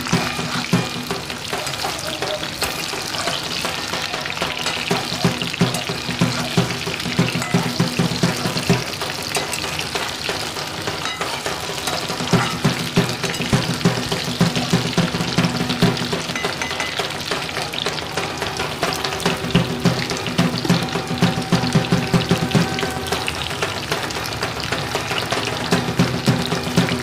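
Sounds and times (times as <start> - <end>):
metal spatula scraping pan: 0.0 - 27.0
vegetables sizzling in hot oil: 0.0 - 27.0.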